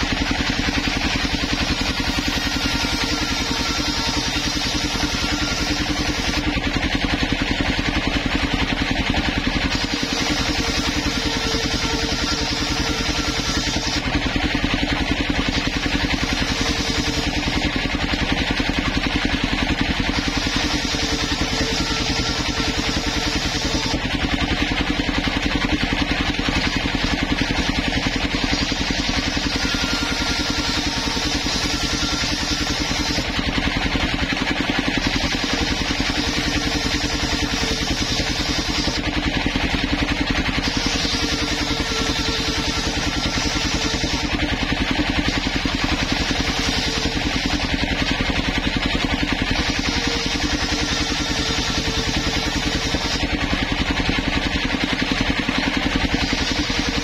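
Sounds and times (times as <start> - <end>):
engine running steadily: 0.0 - 57.0
saw blade cutting wood: 0.0 - 57.0.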